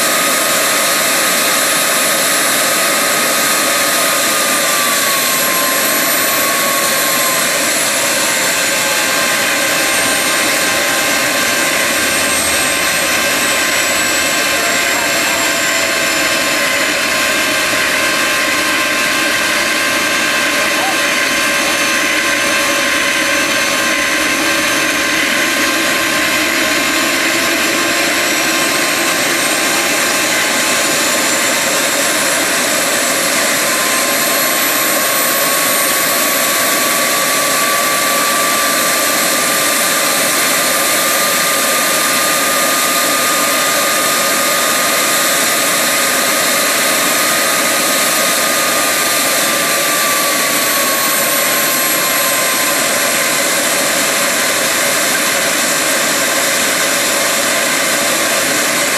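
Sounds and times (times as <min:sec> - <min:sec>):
jet engine roaring: 0:00.0 - 0:58.9
turbine whine rising in pitch: 0:00.0 - 0:58.9.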